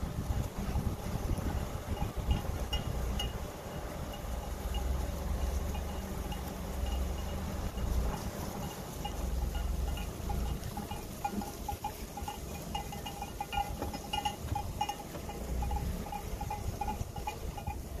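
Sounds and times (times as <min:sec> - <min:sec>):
sheep bells clinking: 0:00.0 - 0:18.0.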